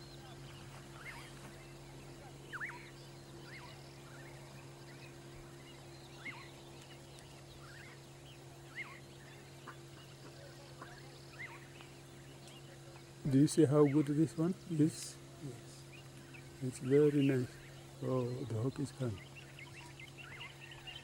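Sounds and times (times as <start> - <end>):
faint bird chirps: 0.0 - 21.0
steady low hum: 0.0 - 21.0.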